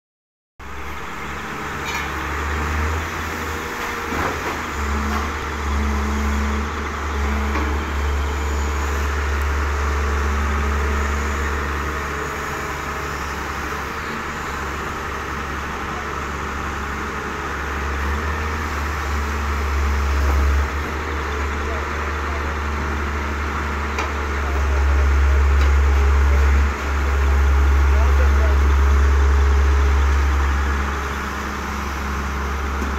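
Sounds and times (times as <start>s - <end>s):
diesel engine droning: 0.6s - 32.9s.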